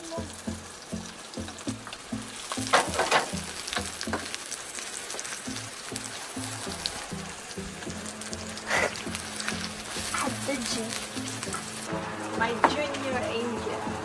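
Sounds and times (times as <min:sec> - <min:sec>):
onion and garlic sizzling in oil: 0:00.0 - 0:12.5.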